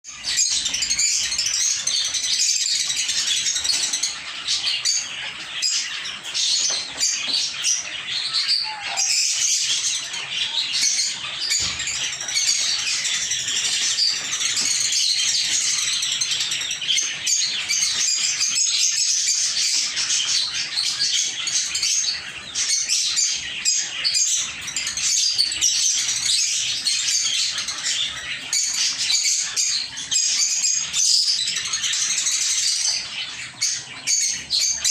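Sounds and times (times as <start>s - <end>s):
birds chirping and chattering: 0.0s - 34.9s.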